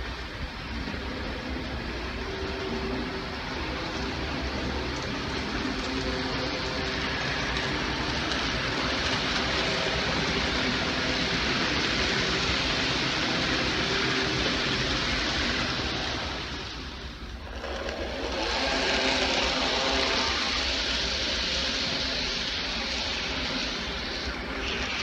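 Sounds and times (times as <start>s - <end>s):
wheels rattling on track: 0.0s - 25.0s
whir of small electric motors: 0.0s - 25.0s.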